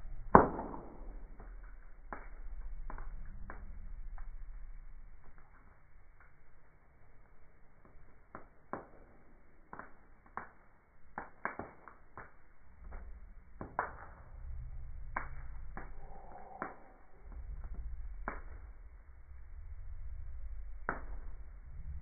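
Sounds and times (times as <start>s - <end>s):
low rumble: 0.0s - 8.2s, 12.4s - 22.0s
wood fire crackling and popping: 0.0s - 22.0s.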